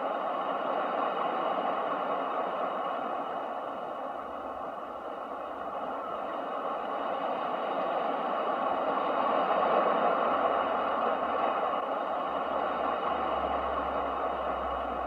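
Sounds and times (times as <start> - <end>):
ocean waves: 0.0 - 15.0.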